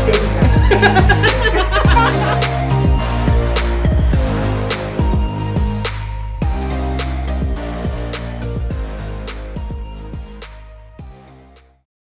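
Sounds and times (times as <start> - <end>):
background music with drum beat: 0.0 - 11.2.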